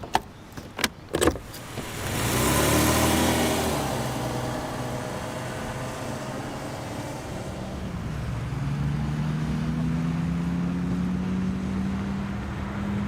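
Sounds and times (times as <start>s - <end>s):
road noise: 0.0s - 13.0s
car engine: 1.2s - 13.0s.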